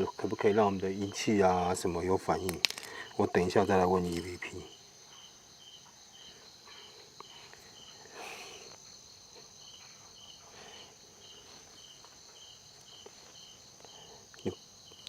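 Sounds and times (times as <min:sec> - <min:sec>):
crickets chirping: 0:00.0 - 0:15.0
high insect trill: 0:00.0 - 0:15.0.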